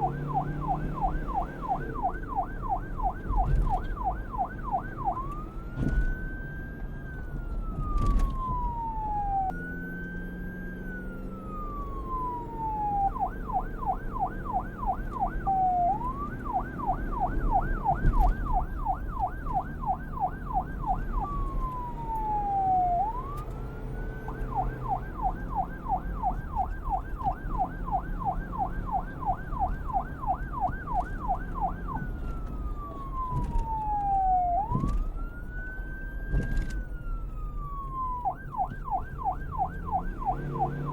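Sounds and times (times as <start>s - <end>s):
police siren wailing and yelping: 0.0s - 40.9s.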